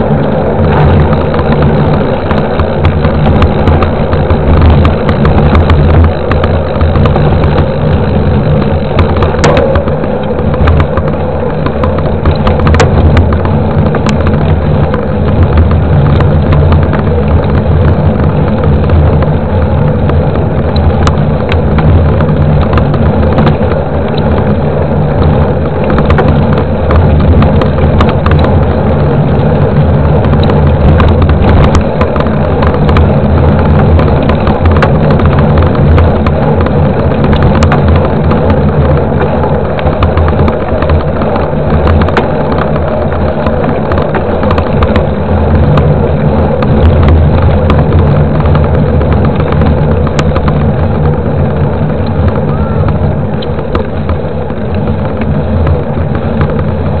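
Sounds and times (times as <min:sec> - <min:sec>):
bike rattling over bumps: 0:00.0 - 0:57.0
tyre rolling on pavement: 0:00.0 - 0:57.0
wind buffeting microphone: 0:00.0 - 0:57.0.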